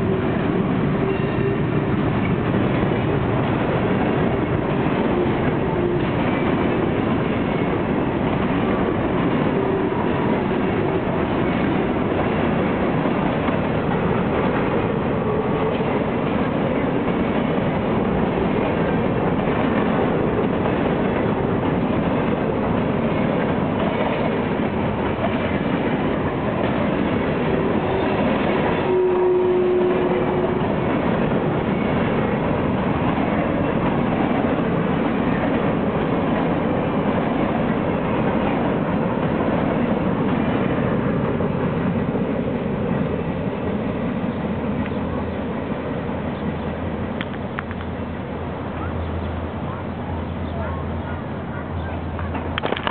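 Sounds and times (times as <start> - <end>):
clickety-clack over rail joints: 0.0 - 52.9
freight train wheels rumbling on rails: 0.0 - 52.9.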